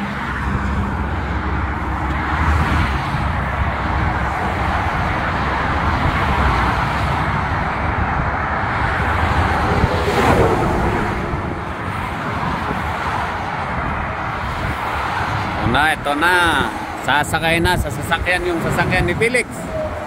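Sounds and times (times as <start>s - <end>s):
highway traffic roar: 0.0s - 20.0s
louder vehicle passing: 0.0s - 20.0s.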